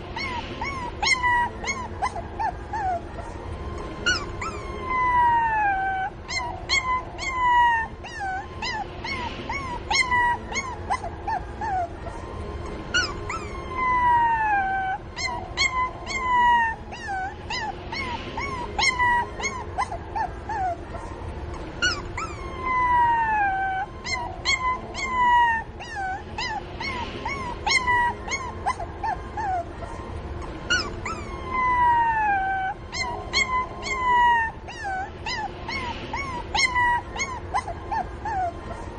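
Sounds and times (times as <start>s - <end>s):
puppy whining: 0.0s - 38.9s
puppy yelping whimpers: 0.0s - 38.9s.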